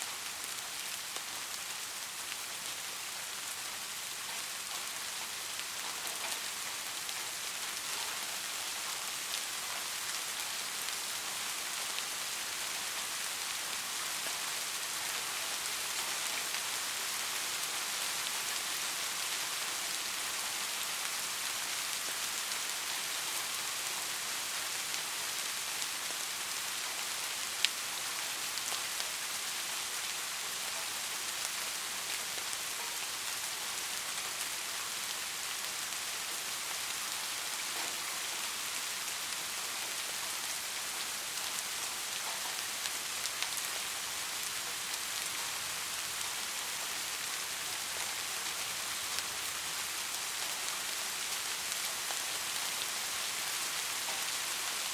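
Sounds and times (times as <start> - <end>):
gentle rain falling: 0.0 - 54.9.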